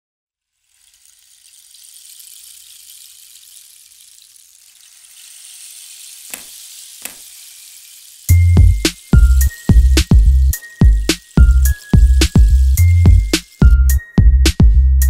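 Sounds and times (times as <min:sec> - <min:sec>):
soft high airy hiss: 0:00.5 - 0:13.7.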